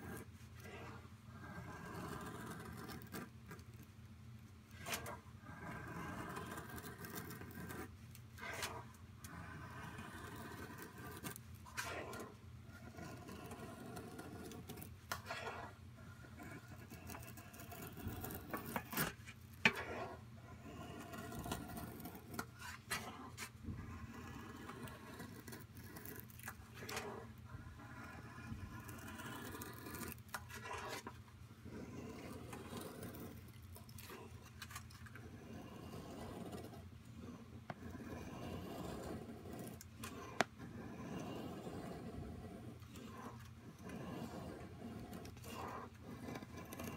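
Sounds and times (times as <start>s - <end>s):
knife scraping wood: 4.7s - 46.9s.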